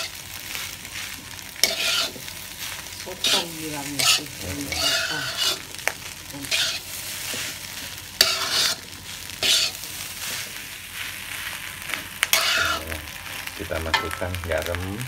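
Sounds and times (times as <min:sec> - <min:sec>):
spatula scraping wok: 0:00.0 - 0:14.7
frying sizzle: 0:00.0 - 0:15.0.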